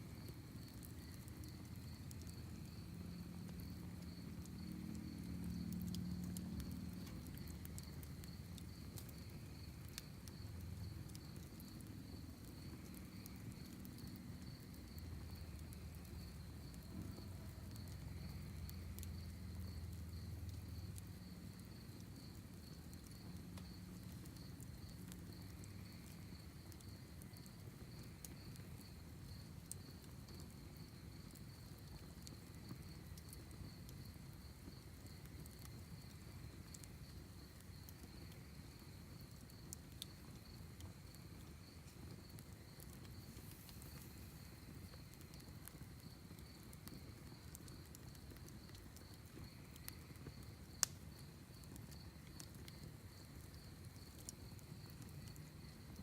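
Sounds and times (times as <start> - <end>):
campfire crackling and popping: 0.0 - 56.0
crickets chirping: 0.1 - 56.0.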